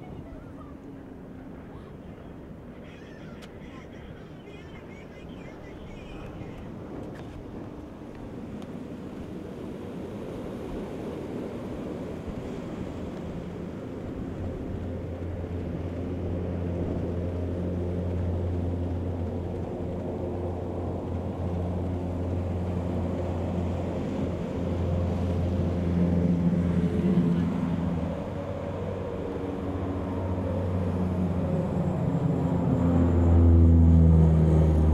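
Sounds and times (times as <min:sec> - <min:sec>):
propeller plane flying low: 0:00.0 - 0:34.9
wind: 0:00.0 - 0:34.9.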